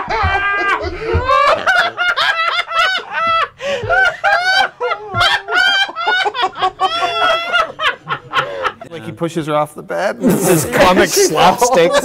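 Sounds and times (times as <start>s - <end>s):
people laughing: 0.0s - 9.0s, 10.2s - 12.0s.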